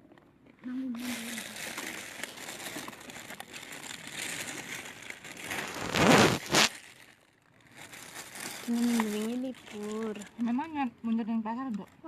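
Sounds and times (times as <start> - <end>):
wrapping crinkling and rustling: 0.0 - 12.0.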